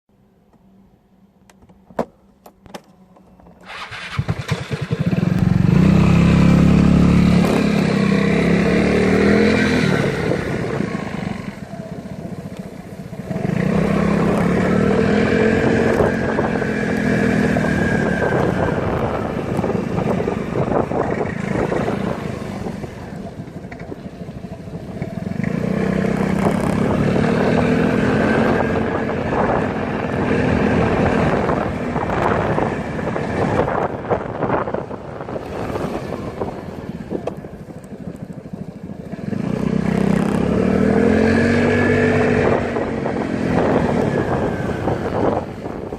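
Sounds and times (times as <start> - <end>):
scooter engine revving: 3.6 - 45.9.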